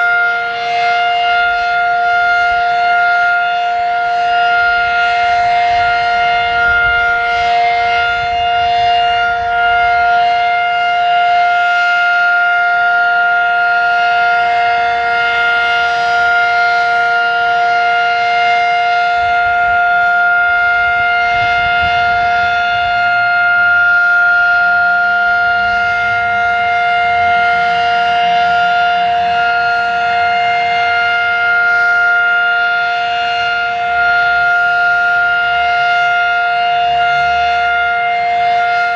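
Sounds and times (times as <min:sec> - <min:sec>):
two-tone warning siren: 0:00.0 - 0:38.9.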